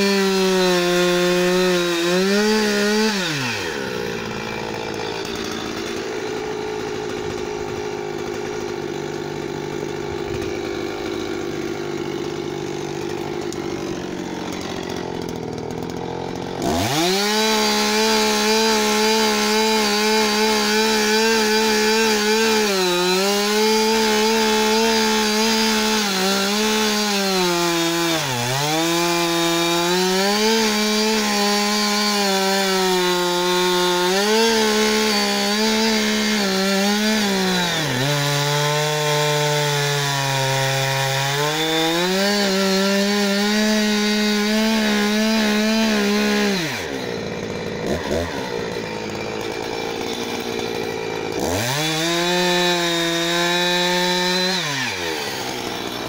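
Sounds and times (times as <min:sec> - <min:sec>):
chainsaw cutting a log: 0:00.0 - 0:56.0.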